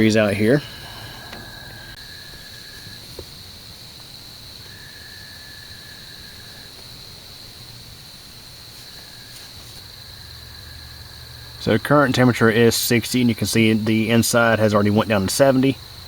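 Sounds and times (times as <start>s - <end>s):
high-pitched insect trill: 0.0s - 16.0s
lower insect trill: 0.0s - 16.0s.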